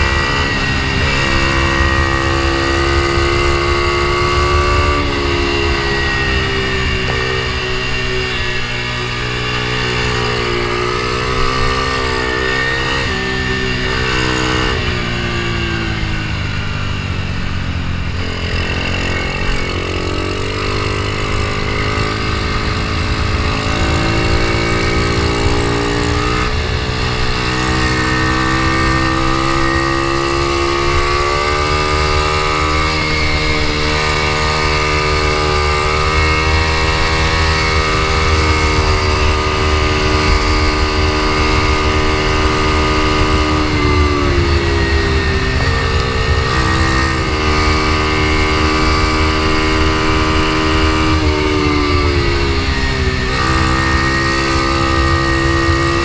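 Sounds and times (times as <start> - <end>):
motorbike engine at racing speed: 0.0 - 56.0.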